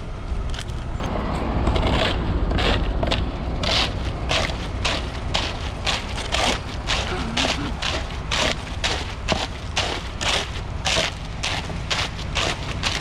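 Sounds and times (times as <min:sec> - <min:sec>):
truck engine rumbling: 0:00.0 - 0:13.0
hand tool scraping wet concrete: 0:01.7 - 0:13.0.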